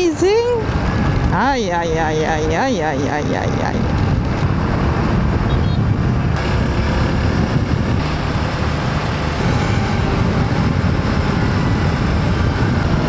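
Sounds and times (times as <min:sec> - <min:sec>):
wind noise on microphone: 0:00.0 - 0:13.0
motorcycle engine running: 0:00.4 - 0:13.0.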